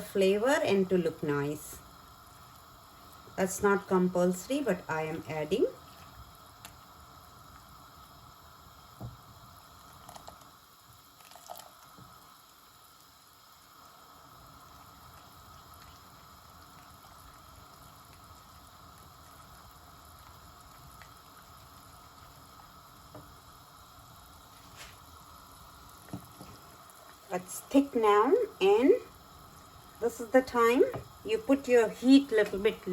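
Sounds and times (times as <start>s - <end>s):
gravy bubbling in a pan: 0.0s - 32.9s.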